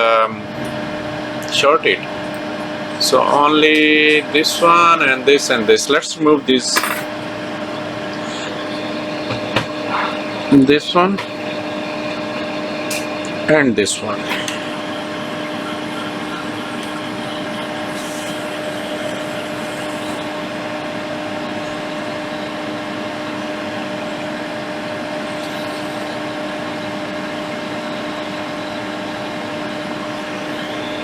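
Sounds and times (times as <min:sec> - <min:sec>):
hot air station blowing: 0:00.0 - 0:31.0.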